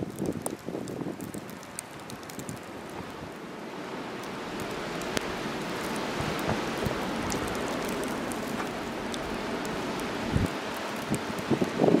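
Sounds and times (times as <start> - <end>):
blizzard wind through trees: 0.0 - 12.0.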